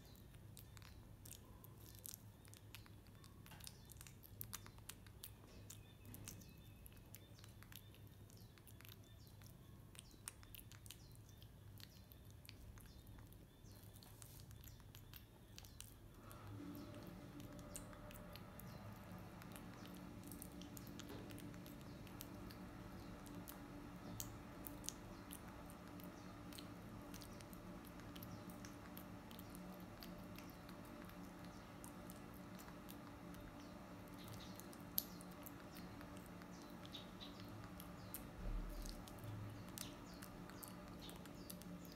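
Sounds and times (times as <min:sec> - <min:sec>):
monkey chewing: 0:00.0 - 0:41.9
steady low hum: 0:00.0 - 0:41.9.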